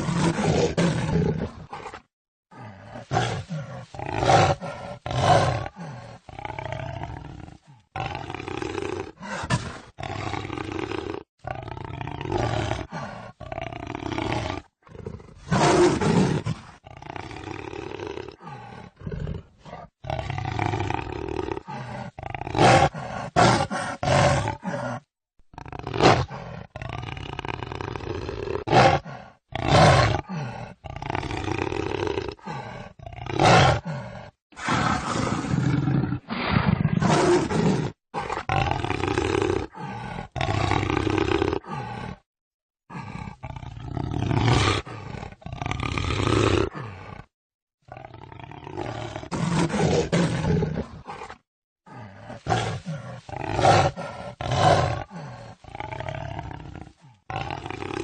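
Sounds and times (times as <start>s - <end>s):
jaguar roaring and growling: 0.0s - 42.3s, 42.9s - 47.3s, 47.9s - 58.0s.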